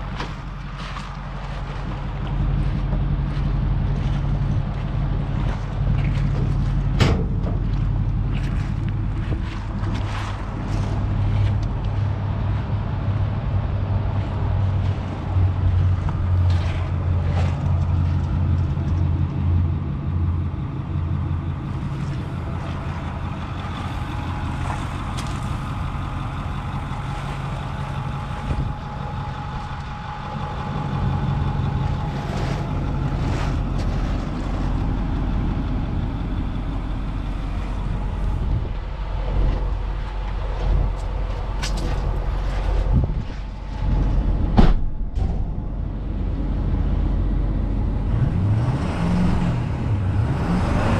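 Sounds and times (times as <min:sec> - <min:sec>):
pickup engine idling: 0:00.0 - 0:48.6.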